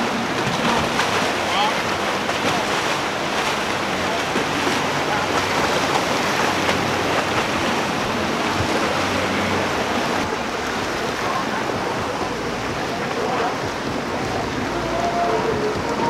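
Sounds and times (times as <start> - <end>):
boat outboard engines droning: 0.0 - 16.0
surf rushing: 0.0 - 16.0.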